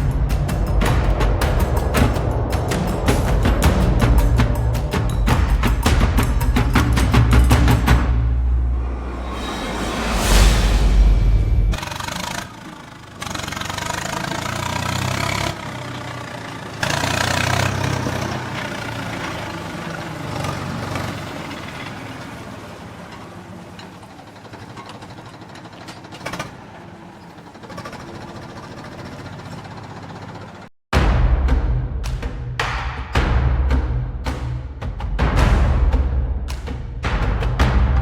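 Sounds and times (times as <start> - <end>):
engine running: 0.0 - 30.6.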